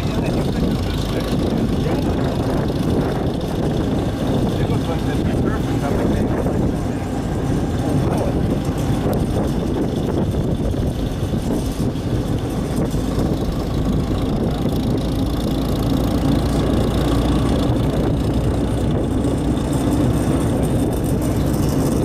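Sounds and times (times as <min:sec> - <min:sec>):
tractor engine running: 0:00.0 - 0:22.0
wagon rolling on pavement: 0:00.0 - 0:22.0.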